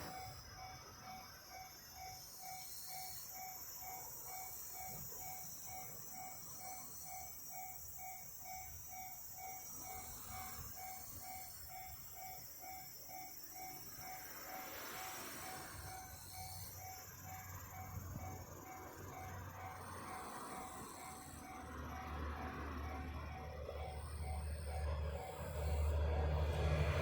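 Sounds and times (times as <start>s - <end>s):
level crossing warning bell: 0.0s - 27.0s.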